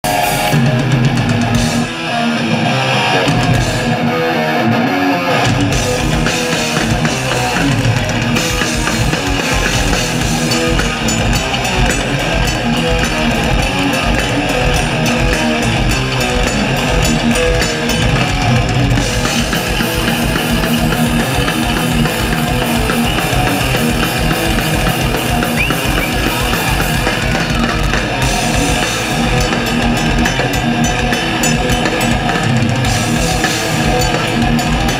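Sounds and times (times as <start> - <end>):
fast drum beat: 0.0 - 2.0, 3.2 - 4.1, 5.4 - 34.9
bass guitar: 0.0 - 34.9
distorted electric guitars: 0.0 - 34.9.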